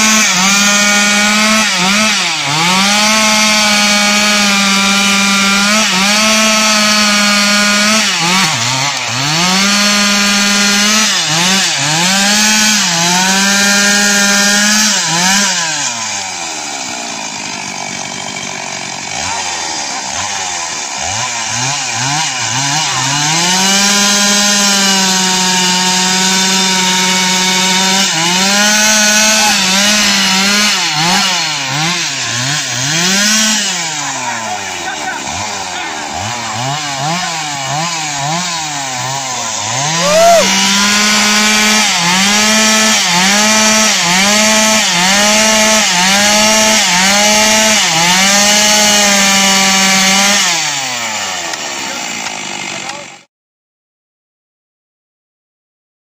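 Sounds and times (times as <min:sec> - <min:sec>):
chainsaw bogging in a cut: 0:00.0 - 0:53.3.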